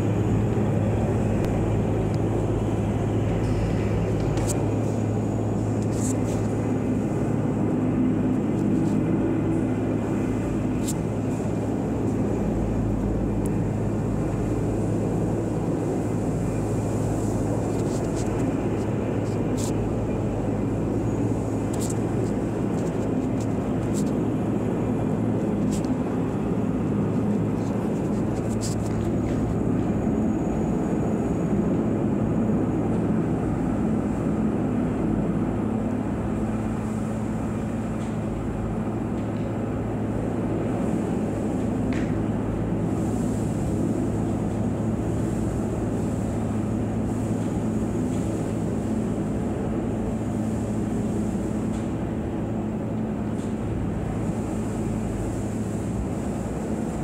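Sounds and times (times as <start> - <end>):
helicopter rotor drone: 0.0 - 57.0.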